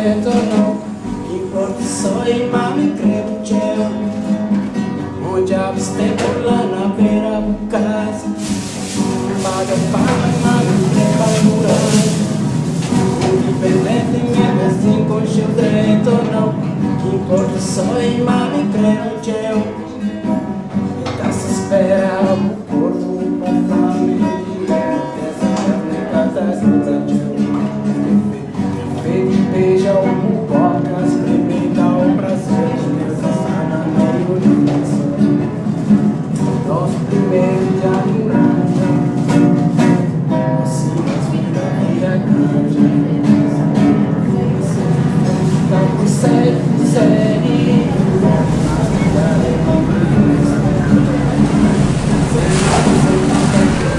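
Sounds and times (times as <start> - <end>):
plucked guitar music: 0.0 - 53.9.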